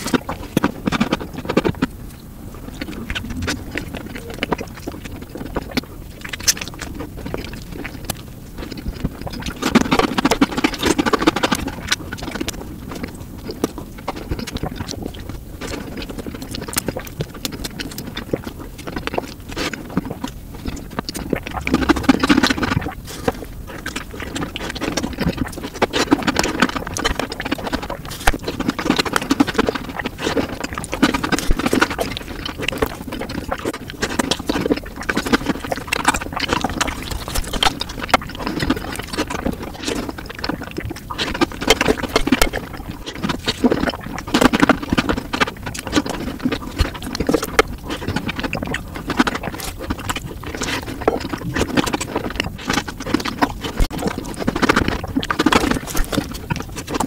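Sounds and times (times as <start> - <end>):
chewing soft cake: 0.0 - 57.0.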